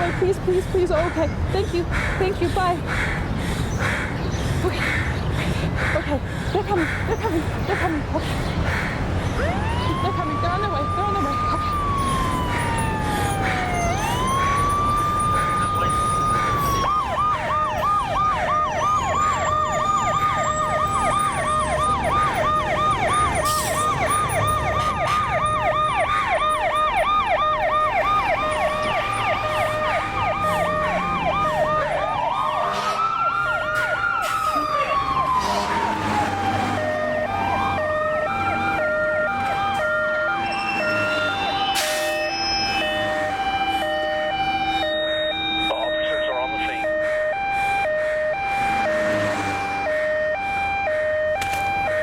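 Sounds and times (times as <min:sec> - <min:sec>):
siren wailing: 0:08.9 - 0:52.0
siren rapid yelp: 0:09.3 - 0:52.0
two-tone hi-lo siren: 0:09.4 - 0:52.0.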